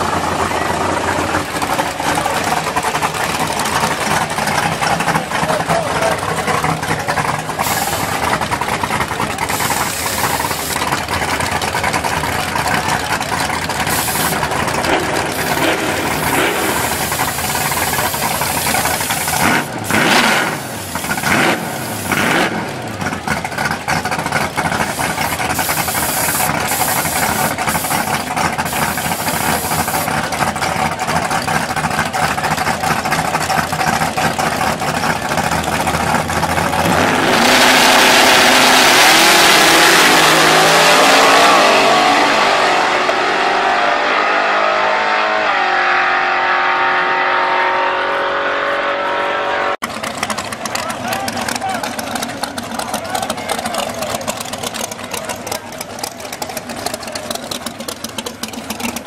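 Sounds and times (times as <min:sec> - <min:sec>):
crowd voices: 0:00.0 - 0:37.1, 0:39.9 - 0:59.0
race car engine idling and revving: 0:00.0 - 0:59.0.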